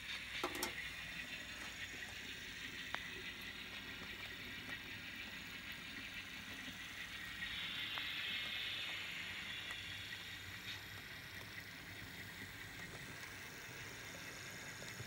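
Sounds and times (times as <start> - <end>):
model train motor whir: 0.0 - 15.0
wheels rolling on rails: 0.0 - 15.0.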